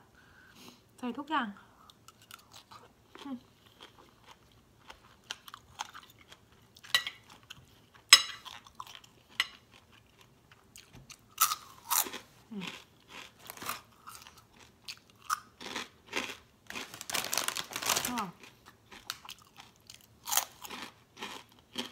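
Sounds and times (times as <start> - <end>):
crunching pork rinds: 2.1 - 21.9.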